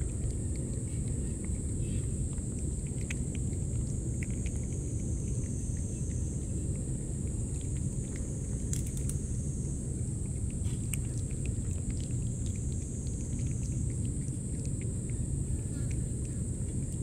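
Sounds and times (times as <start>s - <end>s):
cat licking and chewing food: 0.0s - 17.0s
steady low rumble: 0.0s - 17.0s.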